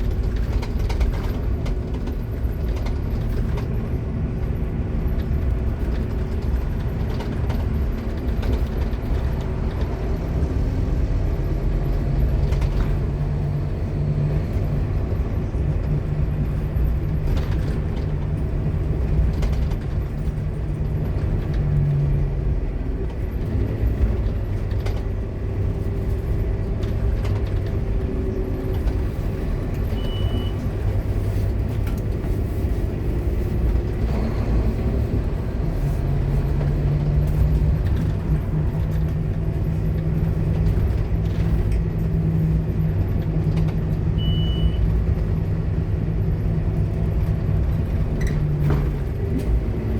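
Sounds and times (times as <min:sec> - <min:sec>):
bus engine changing gear: 0:00.0 - 0:49.9.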